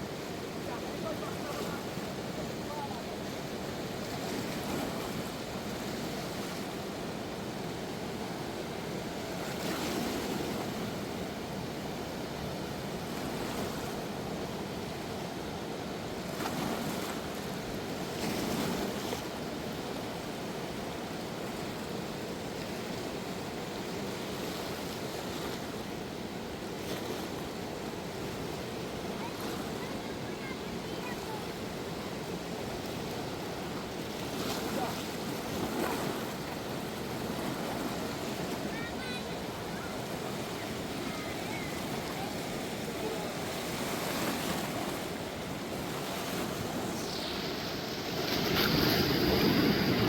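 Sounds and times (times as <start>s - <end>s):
fast river rushing: 0.0s - 50.0s.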